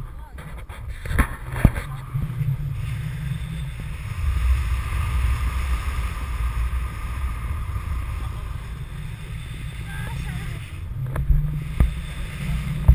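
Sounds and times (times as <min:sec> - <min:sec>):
airflow buffeting microphone: 0:00.0 - 0:12.9.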